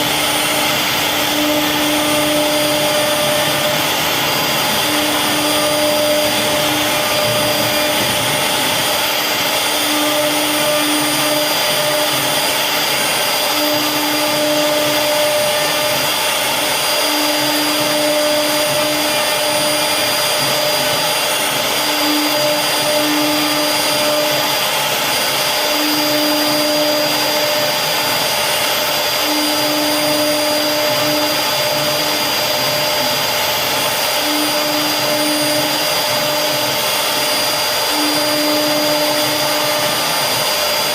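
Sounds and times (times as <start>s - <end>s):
router spindle carving wood: 0.0s - 40.9s.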